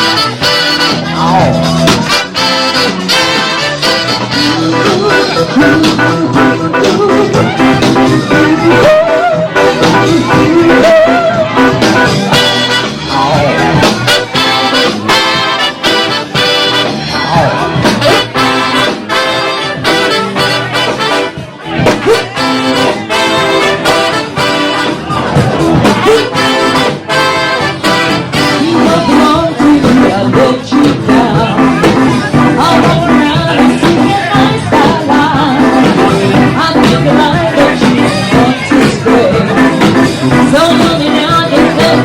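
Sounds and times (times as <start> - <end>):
steady drum beat: 0.0 - 42.0
trombone: 0.0 - 42.0
trumpet: 0.0 - 42.0.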